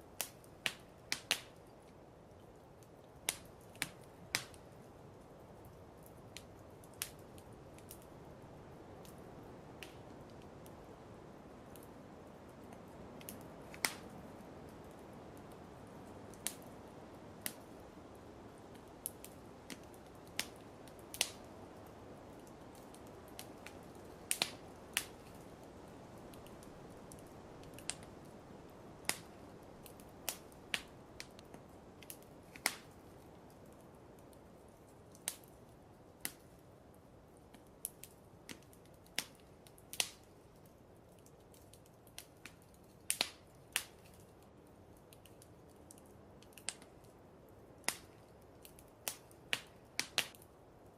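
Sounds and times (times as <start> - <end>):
soft steady hiss: 0.0 - 50.9
wood fire crackling: 0.0 - 50.9.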